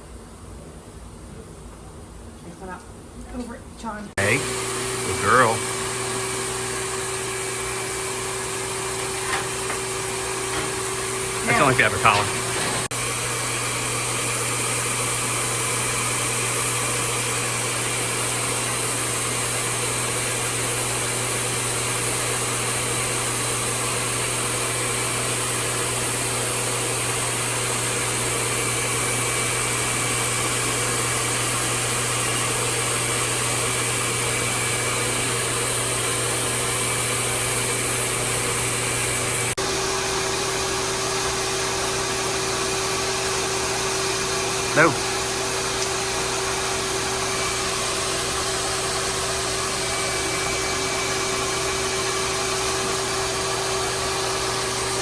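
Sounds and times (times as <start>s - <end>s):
motor hum: 3.4s - 55.0s
blow dryer rushing air: 4.2s - 55.0s.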